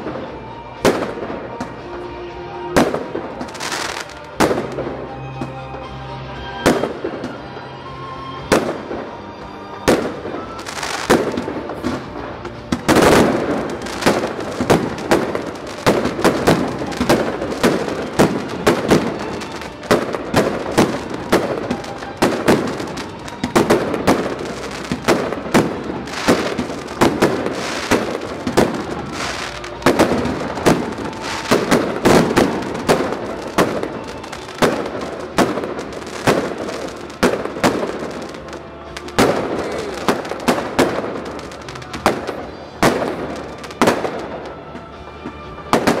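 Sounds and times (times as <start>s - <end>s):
fireworks bursts and crackle: 0.0s - 46.0s.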